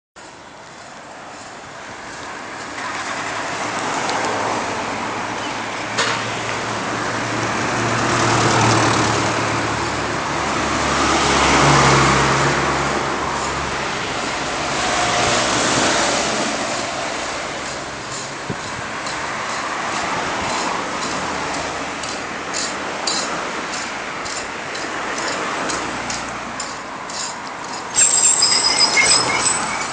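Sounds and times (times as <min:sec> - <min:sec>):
cars passing: 0:00.2 - 0:29.9.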